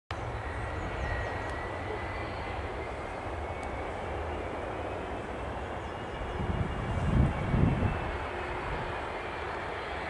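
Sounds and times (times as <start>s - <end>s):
jet engines rumbling at takeoff: 0.1s - 10.0s.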